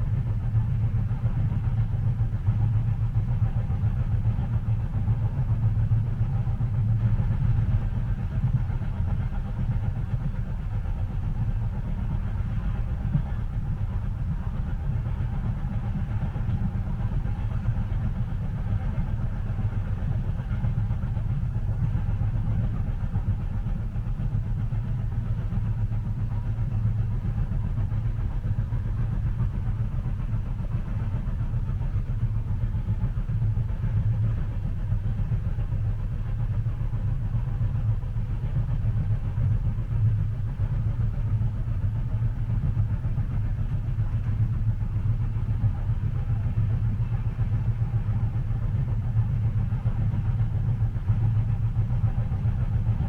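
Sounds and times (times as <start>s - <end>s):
train running inside carriage: 0.0s - 53.0s.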